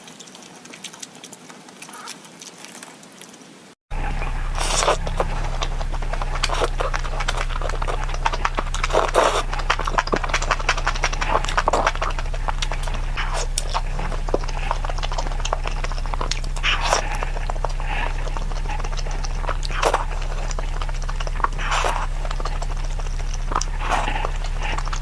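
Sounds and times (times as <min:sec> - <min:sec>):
person chewing food: 0:00.0 - 0:25.0
steady electrical hum: 0:03.5 - 0:25.0.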